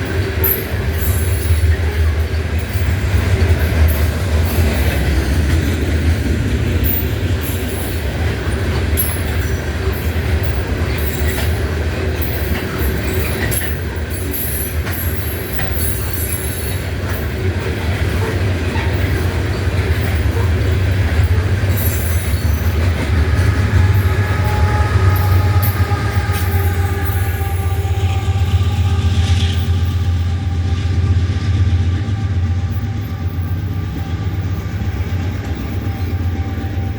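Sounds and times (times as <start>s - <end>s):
freight train rumble: 0.0s - 36.9s.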